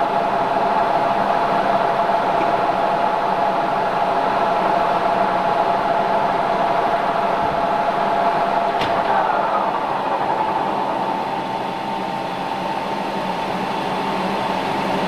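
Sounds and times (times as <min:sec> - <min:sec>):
machine whine: 0:00.0 - 0:15.0.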